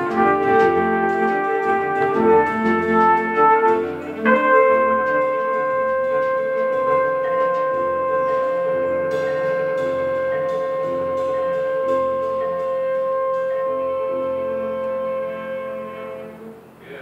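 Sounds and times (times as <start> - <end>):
upright bass playing: 0.0 - 16.8
cymbals ringing: 0.0 - 17.0
trumpet holding high note: 0.0 - 17.0.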